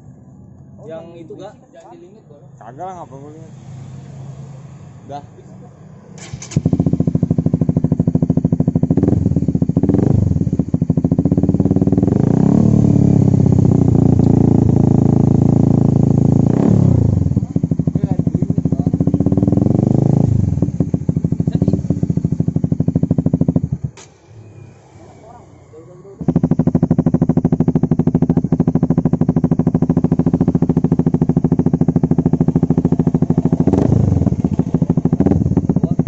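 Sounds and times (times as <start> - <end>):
motorcycle engine revving: 2.6 - 36.0.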